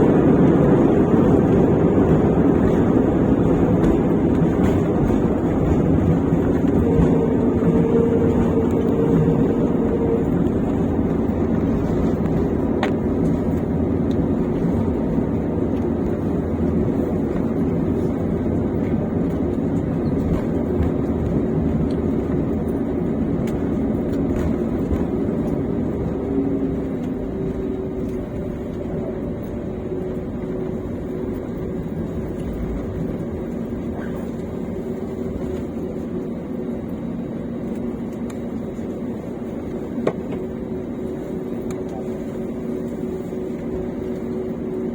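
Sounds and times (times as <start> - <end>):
jet engine cabin rush: 0.0 - 44.9.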